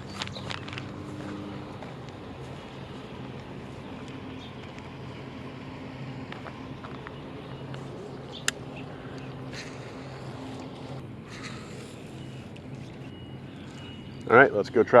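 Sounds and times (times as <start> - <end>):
distant engine hum: 0.0 - 15.0.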